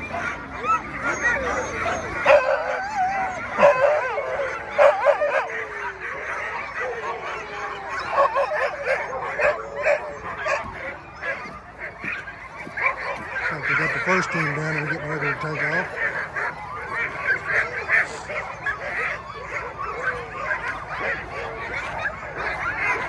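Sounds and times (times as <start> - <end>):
sled dogs barking and whining: 0.0 - 23.0.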